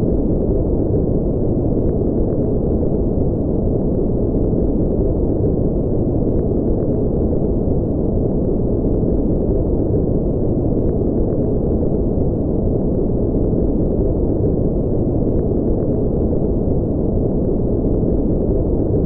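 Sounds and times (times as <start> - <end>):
low rumbling spaceship ambience: 0.0 - 19.0.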